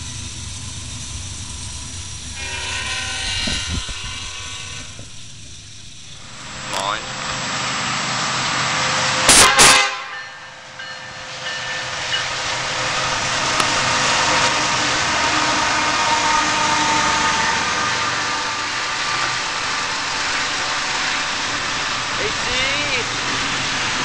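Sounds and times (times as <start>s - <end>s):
freight train rolling by: 0.0s - 24.0s.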